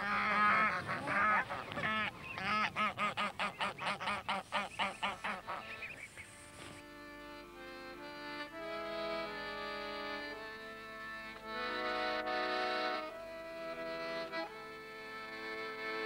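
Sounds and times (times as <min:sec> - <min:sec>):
accordion folk music: 0:00.0 - 0:16.0
geese honking: 0:00.0 - 0:16.0.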